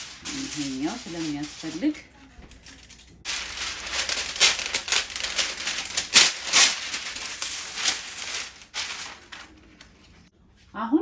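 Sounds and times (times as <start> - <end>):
kitchen wrap crinkling: 0.0 - 10.3.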